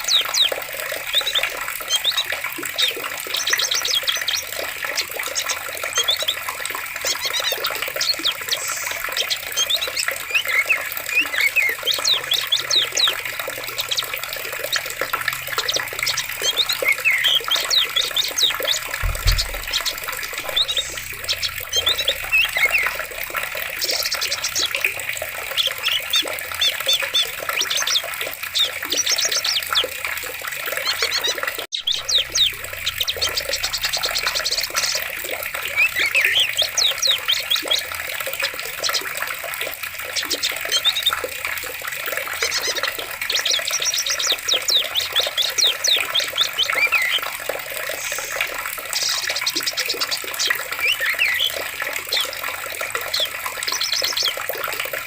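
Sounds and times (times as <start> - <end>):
birds chirping and trilling: 0.0 - 55.0
running water rushing: 0.0 - 55.0.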